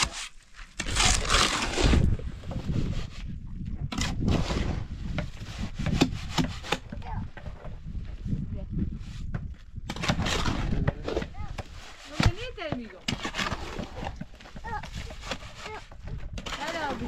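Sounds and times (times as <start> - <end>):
rough scraping and rubbing: 0.0 - 17.0.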